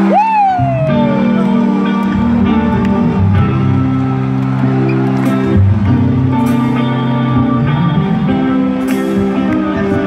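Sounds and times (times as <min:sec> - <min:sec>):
rock band playing live: 0:00.0 - 0:10.0.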